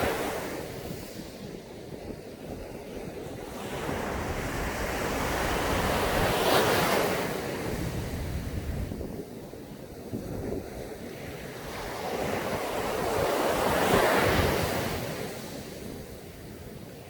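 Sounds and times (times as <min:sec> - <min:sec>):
ocean waves breaking on sand: 0:00.0 - 0:17.0
wind noise on microphone: 0:00.0 - 0:17.0.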